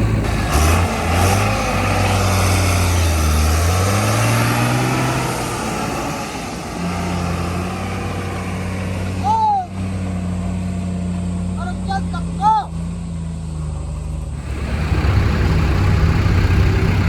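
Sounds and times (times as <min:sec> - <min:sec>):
heavy diesel engine under load: 0:00.0 - 0:17.0.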